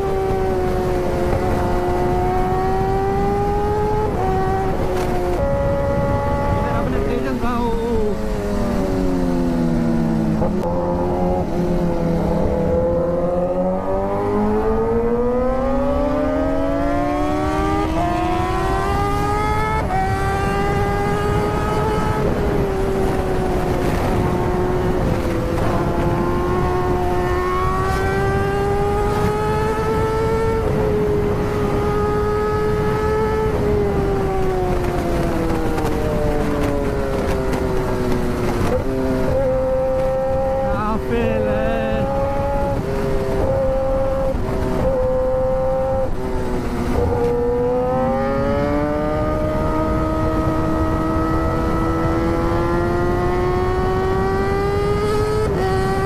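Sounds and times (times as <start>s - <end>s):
motorcycle engine revving: 0.0s - 56.0s
wind noise rushing: 0.0s - 56.0s.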